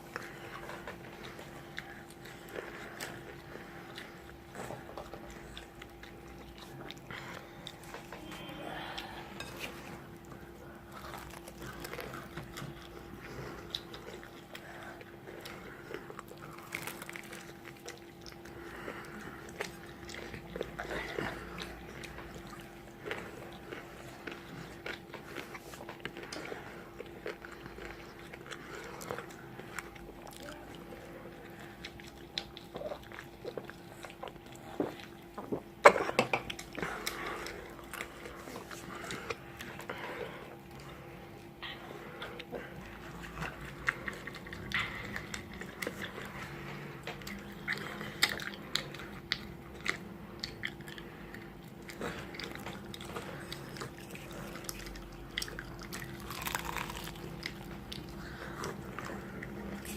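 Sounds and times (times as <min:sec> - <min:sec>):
person chewing crispy food: 0:00.0 - 0:59.9.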